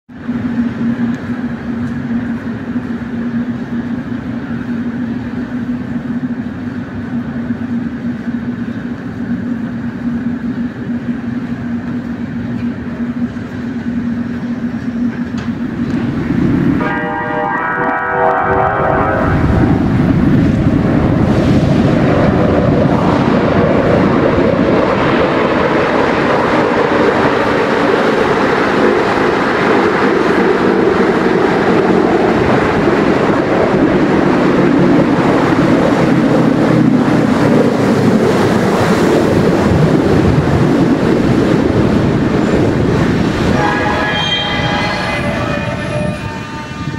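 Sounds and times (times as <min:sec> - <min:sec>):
metro train rumbling and braking: 0:00.1 - 0:46.9.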